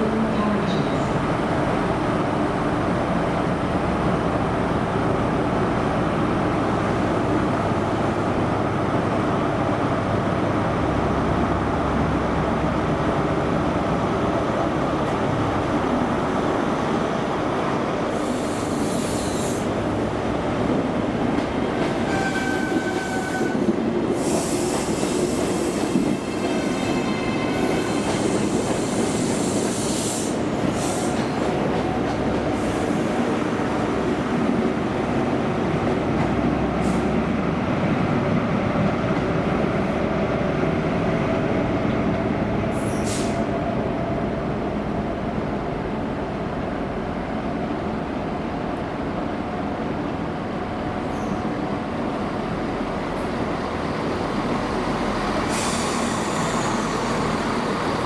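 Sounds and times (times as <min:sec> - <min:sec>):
diesel train running: 0:00.0 - 0:58.0.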